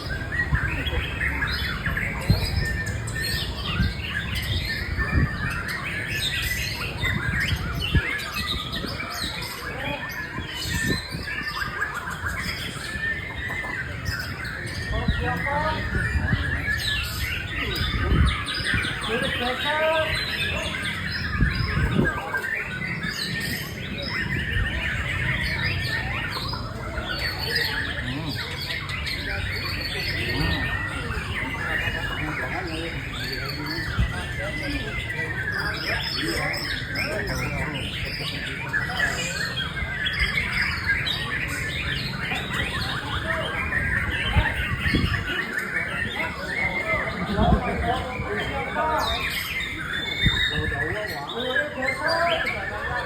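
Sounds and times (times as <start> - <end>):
bird singing chirps and whistles: 0.0 - 53.0.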